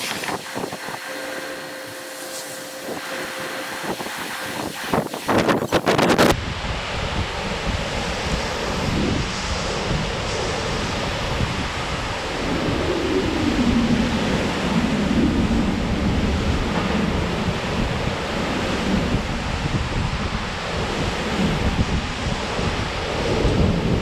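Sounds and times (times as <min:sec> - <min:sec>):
wind gusts buffeting microphone: 0:00.0 - 0:01.2, 0:01.8 - 0:24.0
heavy rain: 0:00.0 - 0:24.0.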